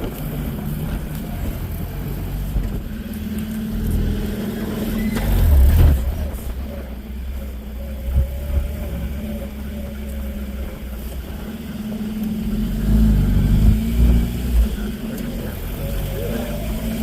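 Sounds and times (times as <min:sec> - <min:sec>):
off-road vehicle engine: 0:00.0 - 0:17.0.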